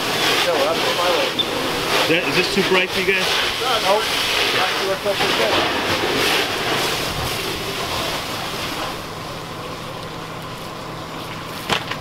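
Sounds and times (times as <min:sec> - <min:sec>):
steady rushing noise: 0:00.0 - 0:10.0
fire engine humming: 0:00.0 - 0:12.0.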